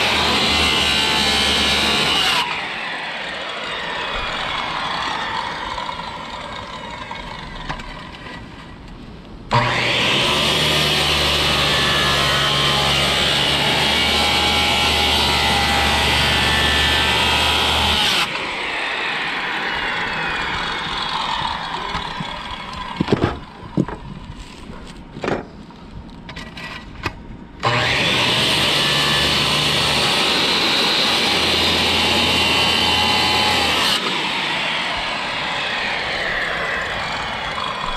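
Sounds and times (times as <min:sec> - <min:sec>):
circular saw cutting: 0:00.0 - 0:08.4, 0:09.5 - 0:23.6, 0:27.6 - 0:37.9
saw blade whining down: 0:00.0 - 0:08.8, 0:09.5 - 0:23.7, 0:27.6 - 0:37.9.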